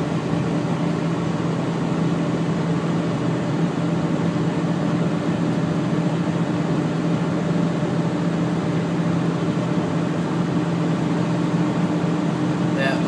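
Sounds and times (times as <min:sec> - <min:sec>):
truck engine hum: 0:00.0 - 0:13.0.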